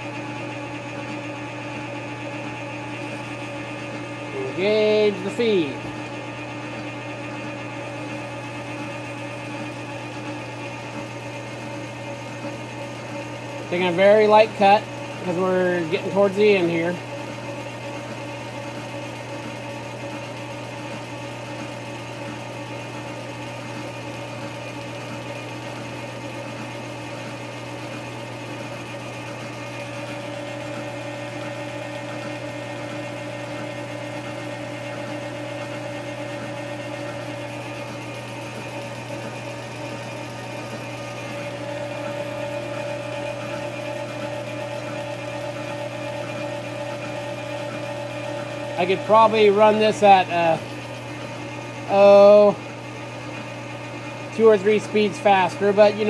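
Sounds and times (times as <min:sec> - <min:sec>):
metal lathe humming and whining: 0:00.0 - 0:56.0.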